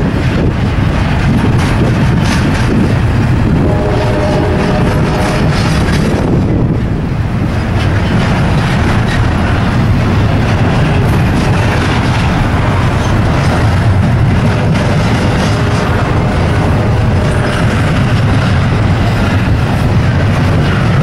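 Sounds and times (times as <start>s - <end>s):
freight train rumbling past: 0.0s - 21.0s
wind buffeting microphone: 0.0s - 21.0s.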